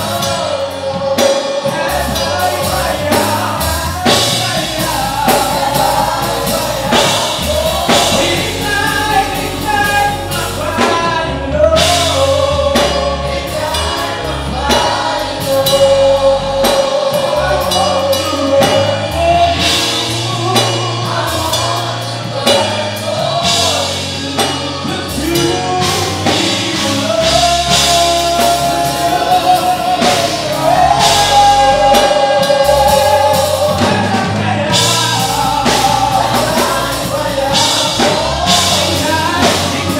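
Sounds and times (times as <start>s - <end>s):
band with drum kit: 0.0s - 39.9s
voices singing together: 0.0s - 39.9s.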